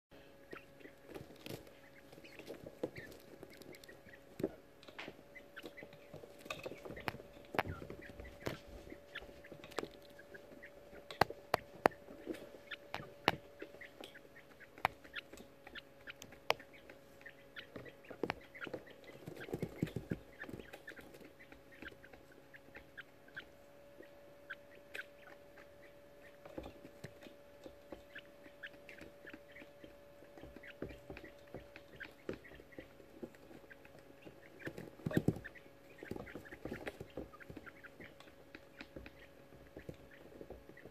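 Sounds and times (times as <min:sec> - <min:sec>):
chicks chirping: 0:00.1 - 0:40.9
chicks pecking in wood shavings: 0:00.1 - 0:40.9
steady low hum: 0:00.1 - 0:40.9.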